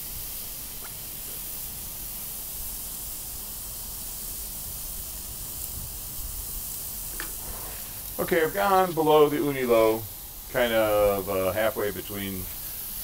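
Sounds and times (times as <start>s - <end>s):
gas burner hissing: 0.0s - 13.0s
patties sizzling on griddle: 0.0s - 13.0s.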